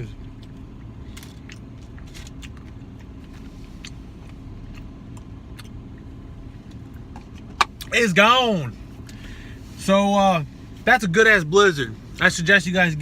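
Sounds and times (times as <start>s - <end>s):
car interior hum: 0.0s - 13.0s.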